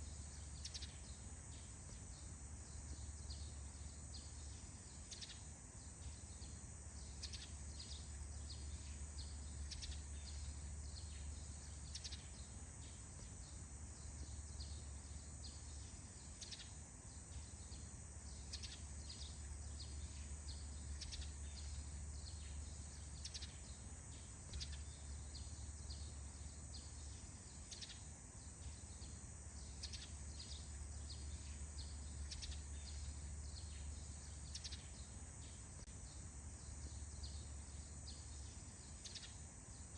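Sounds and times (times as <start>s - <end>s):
birds chirping: 0.0s - 39.9s
low steady hum: 0.0s - 39.9s.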